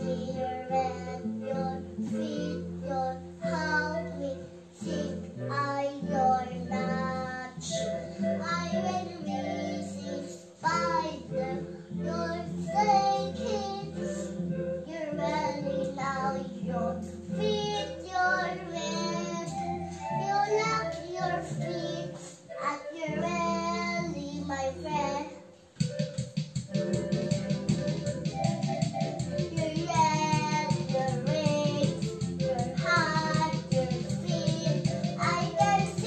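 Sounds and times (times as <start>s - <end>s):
girl singing: 0.0s - 25.6s, 29.2s - 36.0s
electronic organ notes: 0.0s - 36.0s.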